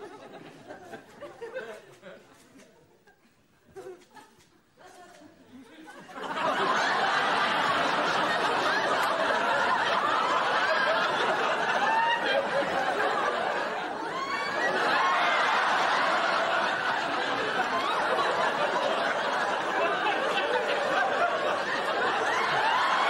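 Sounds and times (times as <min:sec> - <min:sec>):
studio audience laughing: 0:00.0 - 0:02.4, 0:05.7 - 0:23.0.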